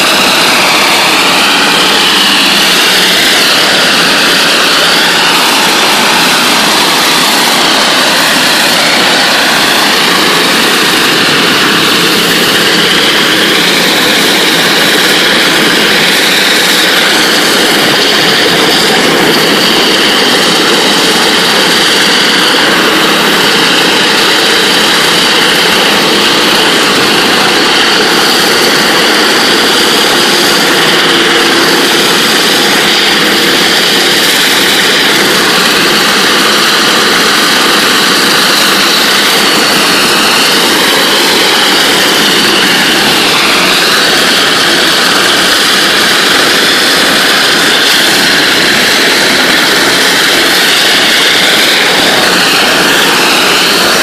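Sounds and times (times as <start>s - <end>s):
water-jet surface cleaner hissing: 0.0s - 54.0s.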